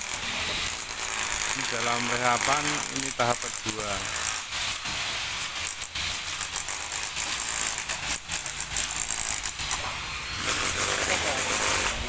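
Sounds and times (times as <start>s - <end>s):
clay roof tiles rattling: 0.0s - 12.0s.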